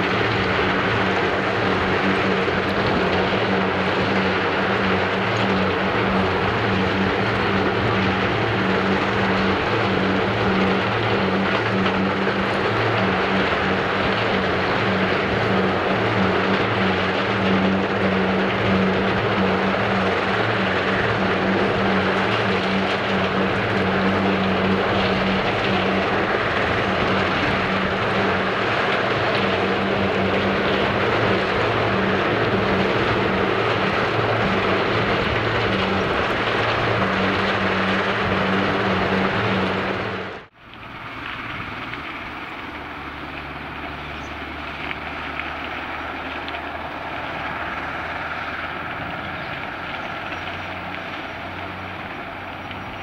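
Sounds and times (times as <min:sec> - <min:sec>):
diesel truck engine pulling hard: 0:00.0 - 0:53.0
low truck and loader engines: 0:00.0 - 0:53.0.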